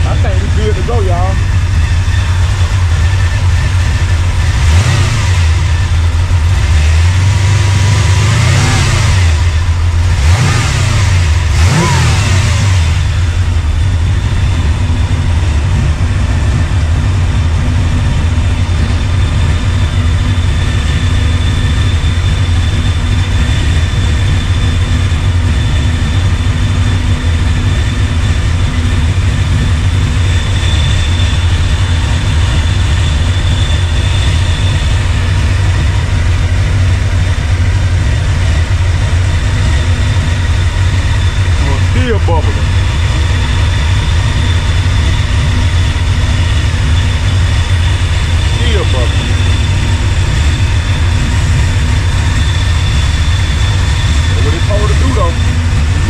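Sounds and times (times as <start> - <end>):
pickup engine idling and revving: 0.0 - 56.0.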